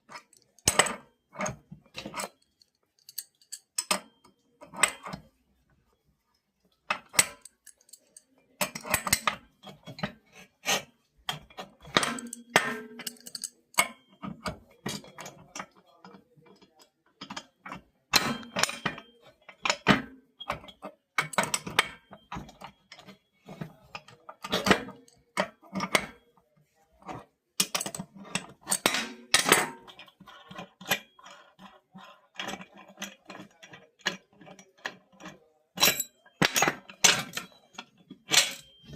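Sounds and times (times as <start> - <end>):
tools and metal parts clinking: 0.0 - 5.2, 6.9 - 26.3, 27.0 - 38.9.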